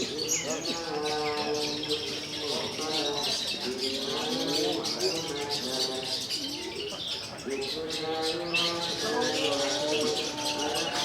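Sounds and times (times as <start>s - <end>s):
songbirds chirping and trilling: 0.0s - 11.0s.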